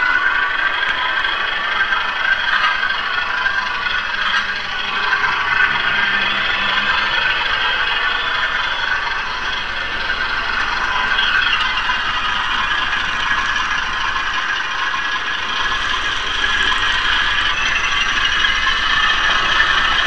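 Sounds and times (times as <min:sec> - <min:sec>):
model train running noise: 0:00.0 - 0:20.0.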